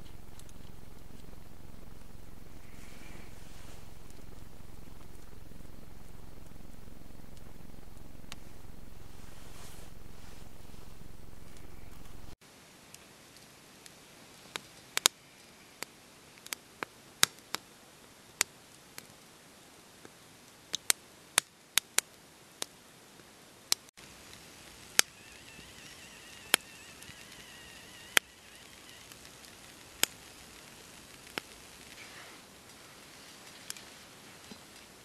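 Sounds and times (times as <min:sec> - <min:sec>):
wood fire crackling: 0:00.0 - 0:15.2, 0:15.8 - 0:35.0.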